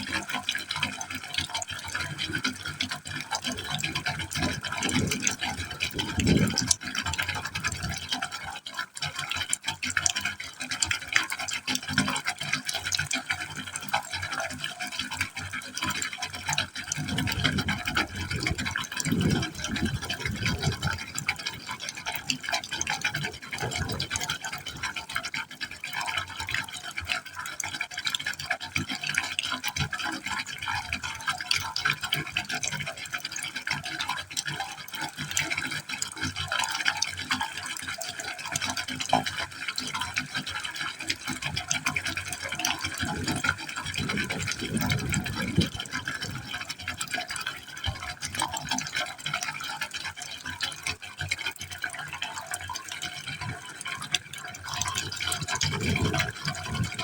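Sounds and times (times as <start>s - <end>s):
water splashing and gurgling: 0.0s - 57.0s.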